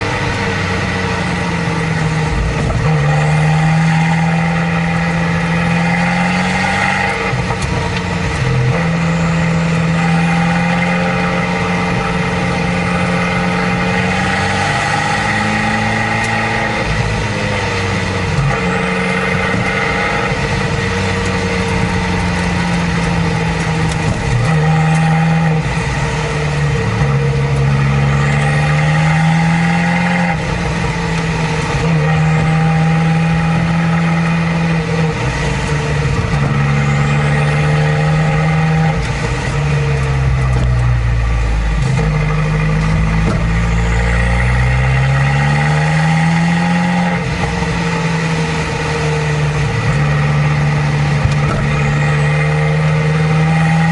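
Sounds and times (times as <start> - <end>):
car engine pulling through gears: 0.0 - 53.9.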